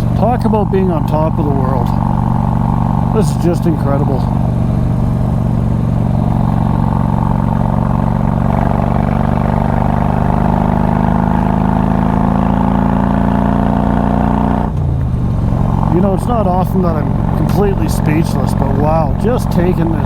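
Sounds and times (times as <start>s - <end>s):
motorcycle engine with loud exhaust: 0.0s - 20.0s.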